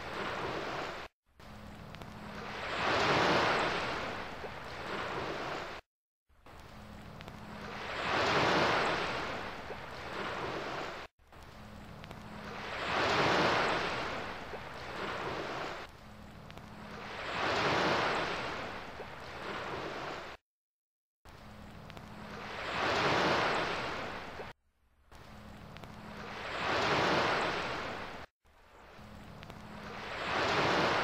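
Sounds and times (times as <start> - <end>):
ocean waves washing: 0.0 - 5.8, 6.5 - 20.4, 21.6 - 24.5, 25.1 - 31.0.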